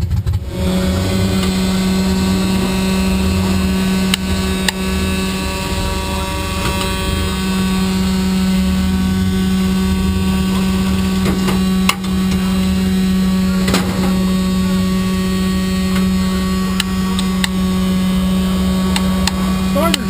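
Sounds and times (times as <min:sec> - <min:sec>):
loud electrical hum: 0:00.0 - 0:20.0
low rumble: 0:00.0 - 0:20.0.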